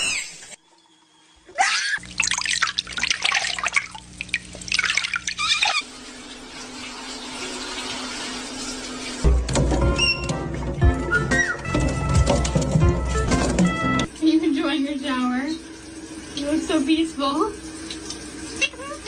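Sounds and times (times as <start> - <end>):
running water splashing: 2.0 - 19.0.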